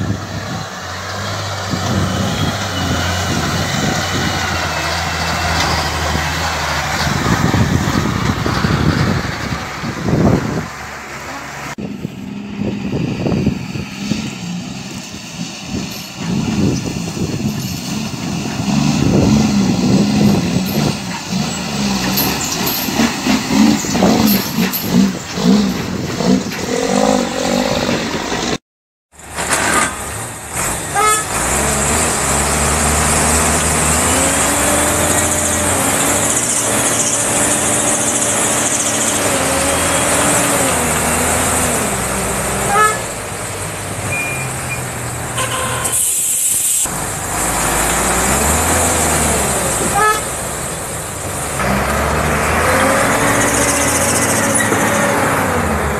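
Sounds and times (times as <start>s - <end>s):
diesel truck engines labouring: 0.0s - 28.6s, 29.2s - 55.9s
truck engine revving: 0.0s - 28.6s, 29.2s - 55.9s.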